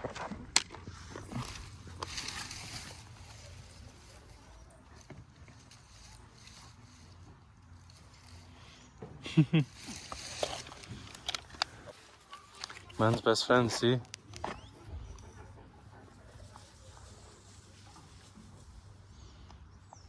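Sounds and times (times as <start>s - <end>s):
quiet outdoor ambience: 0.0s - 20.0s.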